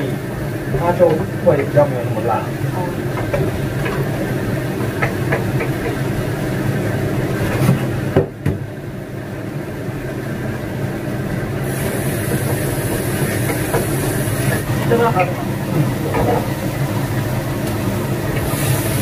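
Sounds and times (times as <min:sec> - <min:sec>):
range hood fan humming: 0:00.0 - 0:19.0.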